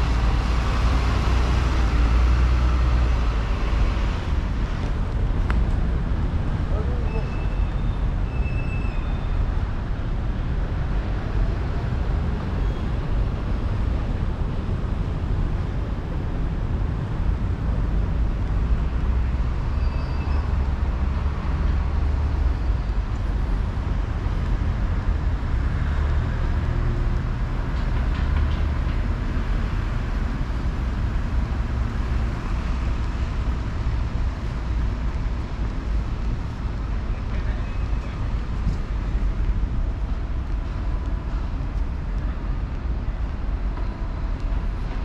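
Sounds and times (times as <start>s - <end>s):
city background rumble: 0.0s - 45.0s.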